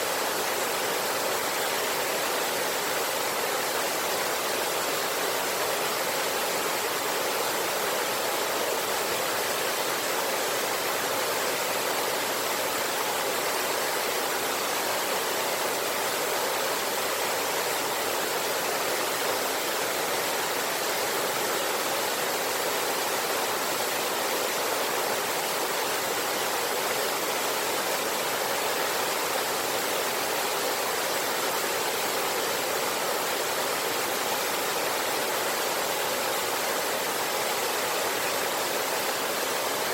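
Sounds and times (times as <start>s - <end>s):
river and waterfall rushing: 0.0s - 39.9s.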